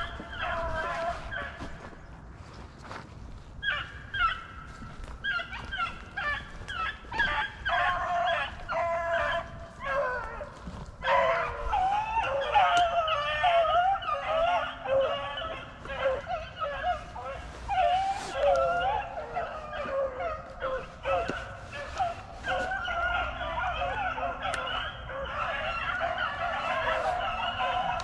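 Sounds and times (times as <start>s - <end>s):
pack of dogs baying: 0.0s - 2.1s, 3.6s - 28.0s.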